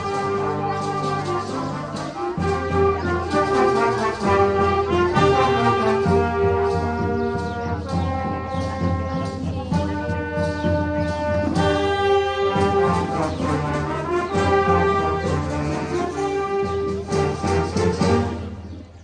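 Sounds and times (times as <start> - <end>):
wind band playing chords: 0.0 - 19.0.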